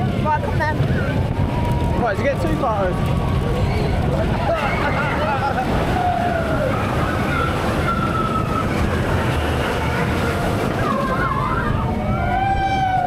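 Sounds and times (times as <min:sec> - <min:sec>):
roller coaster cars rumbling: 0:00.0 - 0:13.0.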